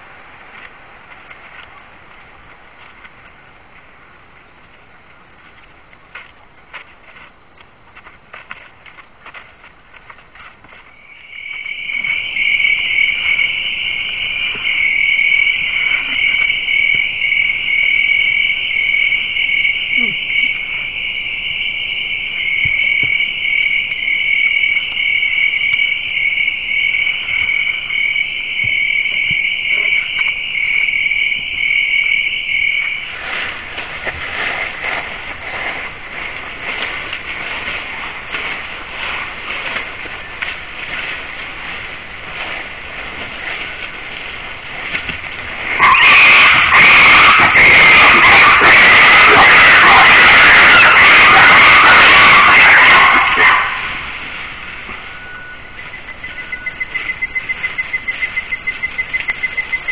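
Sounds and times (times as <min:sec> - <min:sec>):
night insects chirring: 0:10.7 - 0:59.9.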